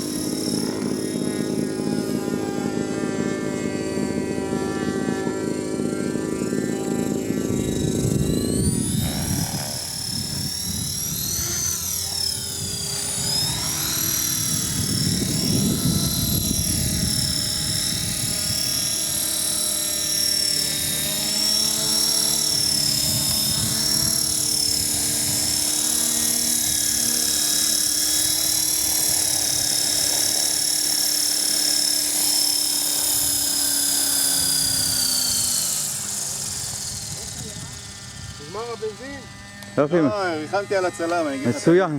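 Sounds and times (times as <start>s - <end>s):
model helicopter high-pitched whine: 0.0s - 41.9s.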